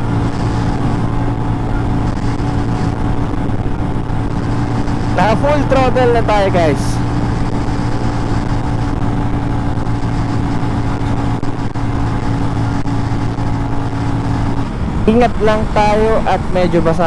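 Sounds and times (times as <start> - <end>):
motorcycle engine at full throttle: 0.0 - 17.0
rushing wind noise: 0.0 - 17.0.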